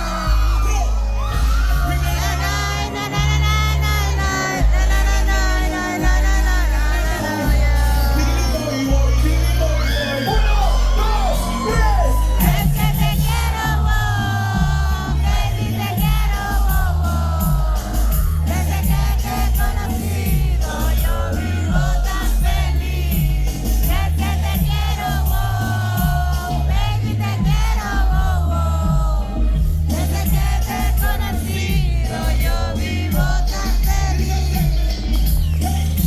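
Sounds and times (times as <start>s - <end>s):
heavy bass beat: 0.0s - 36.0s.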